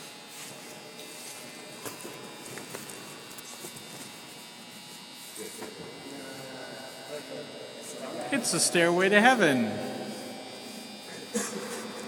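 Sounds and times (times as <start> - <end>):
electrical buzz and hum: 0.0 - 12.0.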